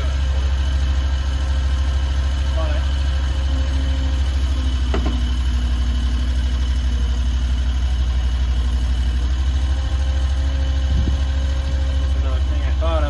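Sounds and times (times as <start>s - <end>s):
engine running low drone: 0.0s - 13.0s.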